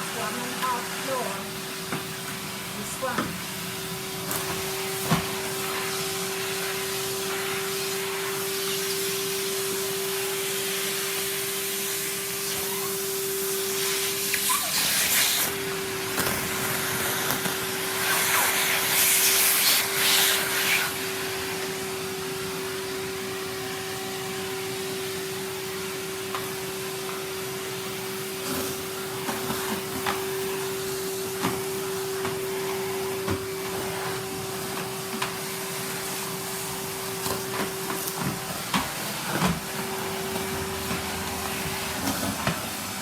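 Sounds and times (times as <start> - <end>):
vacuum cleaner motor hum: 0.0 - 43.0
vacuum sucking up wood shavings: 0.0 - 43.0.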